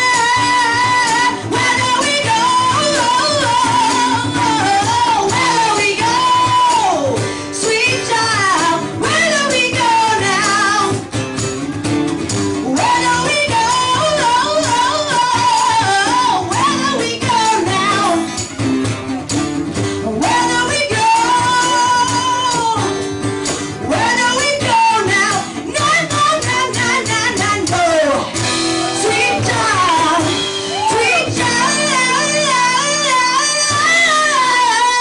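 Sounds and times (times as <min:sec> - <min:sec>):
woman singing: 0:00.0 - 0:11.1, 0:12.6 - 0:18.6, 0:19.9 - 0:35.0
strummed acoustic guitars: 0:00.0 - 0:35.0.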